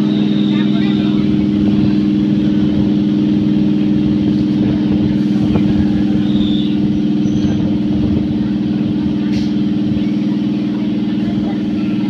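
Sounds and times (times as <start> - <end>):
vehicle motor drone: 0.0 - 12.0.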